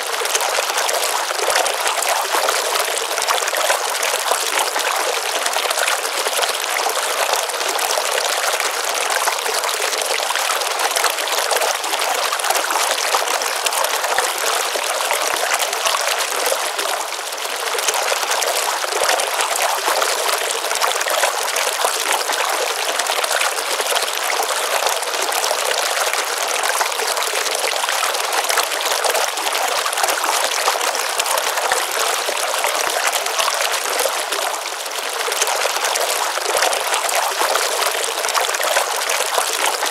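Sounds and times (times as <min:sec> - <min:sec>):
stream water trickling and splashing: 0:00.0 - 0:39.9.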